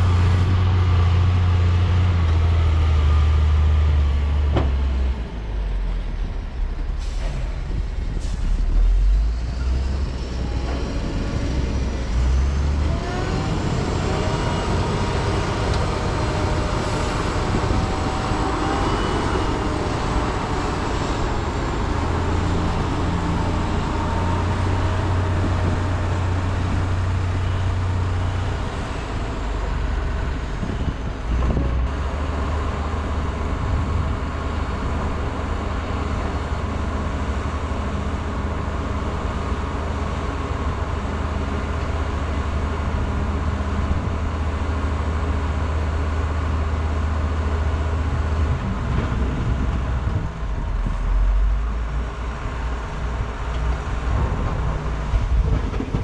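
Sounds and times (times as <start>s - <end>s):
diesel machinery engine hum: 0.0s - 56.0s.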